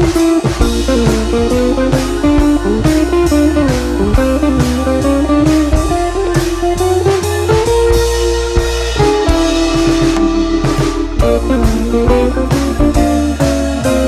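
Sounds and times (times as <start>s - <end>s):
drums steady beat: 0.0s - 14.0s
guitar music: 0.0s - 14.0s.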